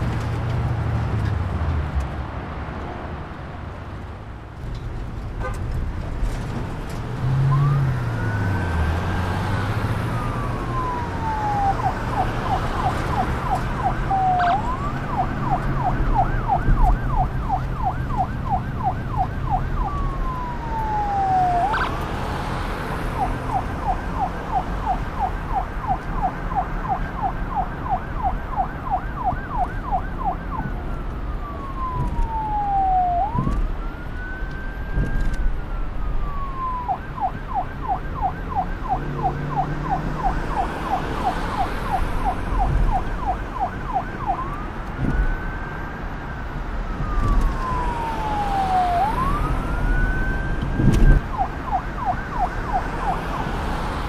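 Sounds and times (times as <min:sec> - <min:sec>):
police siren yelping and wailing: 0:07.4 - 0:54.0.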